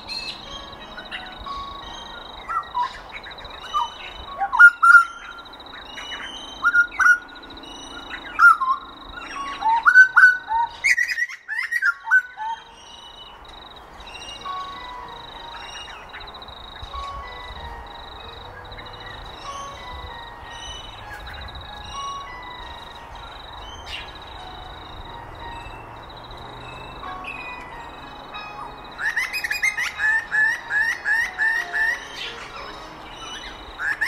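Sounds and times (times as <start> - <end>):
birds whistling: 0.0 - 34.0.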